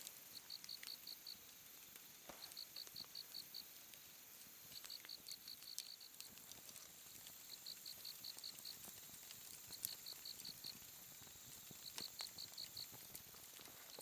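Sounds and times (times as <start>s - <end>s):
campfire crackling: 0.0s - 14.0s
cricket chirping: 0.0s - 14.0s
high insect hiss: 0.0s - 14.0s.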